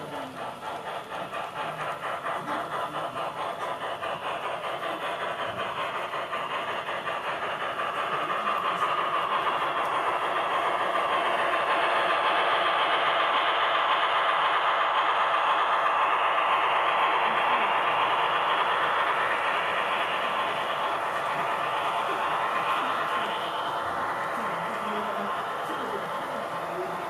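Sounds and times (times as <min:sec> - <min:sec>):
model train rattling on track: 0:00.0 - 0:27.0.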